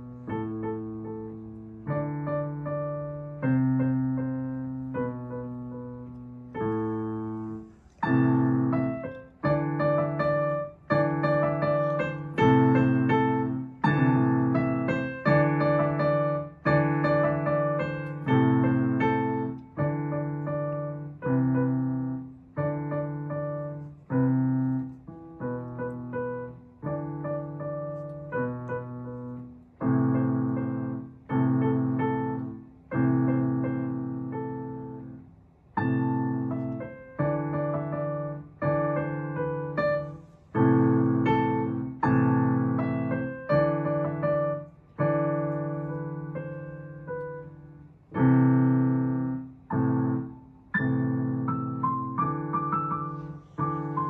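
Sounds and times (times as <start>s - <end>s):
piano chords and melody: 0.0s - 54.0s.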